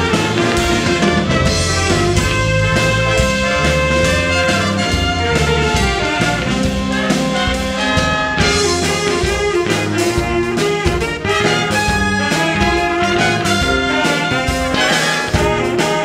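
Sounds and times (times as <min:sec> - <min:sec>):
bass line: 0:00.0 - 0:16.0
saxophones: 0:00.0 - 0:16.0
trumpets and trombones playing chords: 0:00.0 - 0:16.0.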